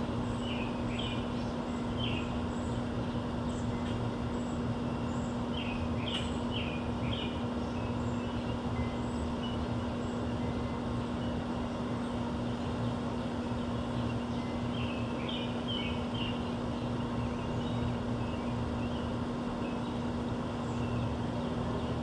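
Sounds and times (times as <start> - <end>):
low mechanical hum: 0.0 - 22.0
outdoor urban rumble: 0.0 - 22.0.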